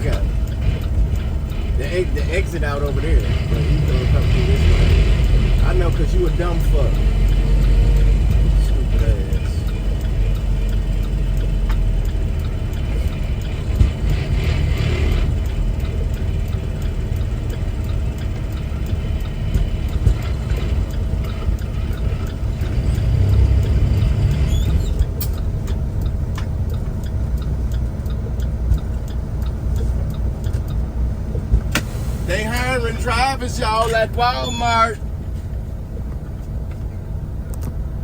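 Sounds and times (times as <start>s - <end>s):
truck diesel engine rumble: 0.0s - 38.0s.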